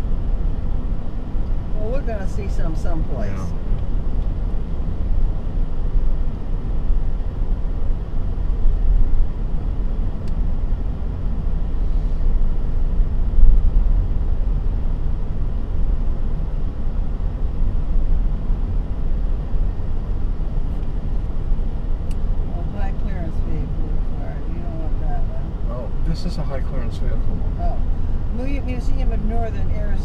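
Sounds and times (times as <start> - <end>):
car engine drone: 0.0 - 30.0
car tyre and road noise: 0.0 - 30.0.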